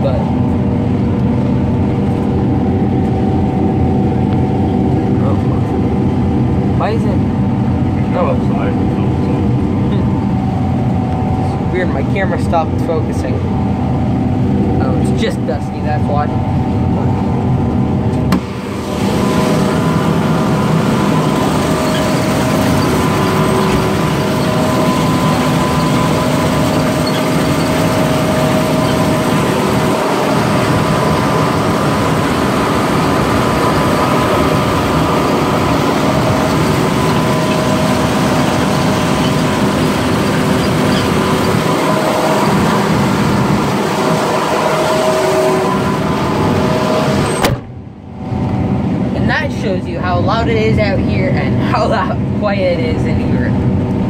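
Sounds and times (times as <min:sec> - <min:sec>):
combine harvester machinery din: 0:00.0 - 0:50.8.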